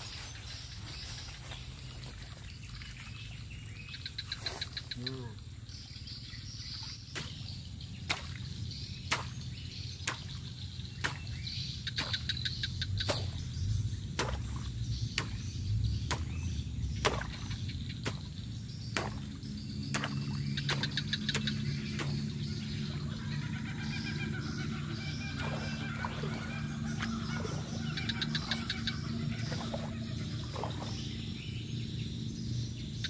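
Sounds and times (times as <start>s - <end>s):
low steady rumble: 5.3s - 33.0s.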